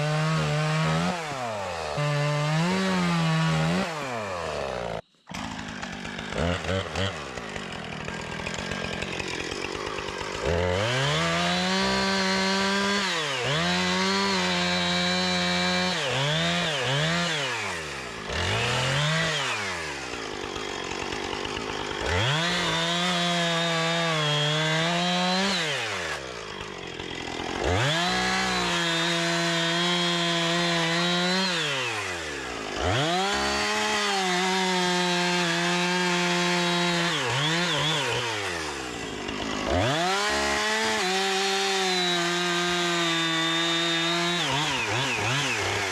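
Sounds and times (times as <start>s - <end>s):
chainsaw revving and idling: 0.0s - 45.9s.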